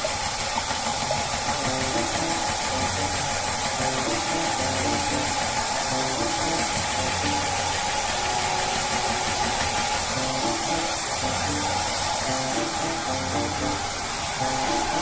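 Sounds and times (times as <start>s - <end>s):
hair dryer blowing: 0.0s - 15.0s
light background music: 1.2s - 15.0s.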